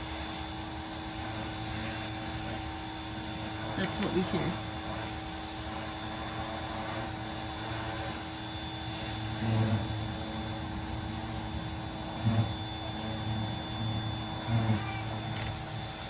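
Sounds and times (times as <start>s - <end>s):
machine droning: 0.0s - 16.0s.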